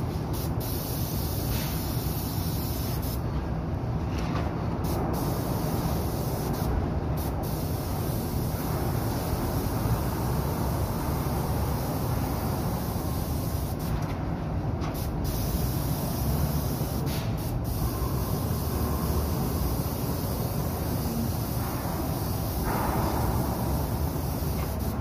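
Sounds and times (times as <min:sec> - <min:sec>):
constant low rumble: 0:00.0 - 0:25.0
paint spray gun spraying: 0:00.3 - 0:03.2, 0:04.9 - 0:13.9, 0:15.0 - 0:25.0.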